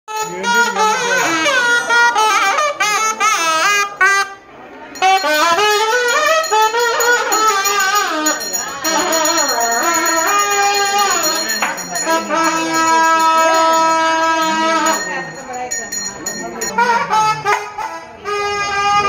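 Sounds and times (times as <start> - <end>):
reed pipe ornamented melody: 0.1 - 19.0.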